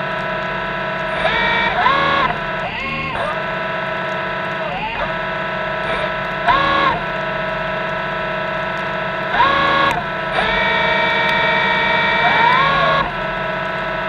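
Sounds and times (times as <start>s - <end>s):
electric thruster motors whining: 0.0s - 14.0s.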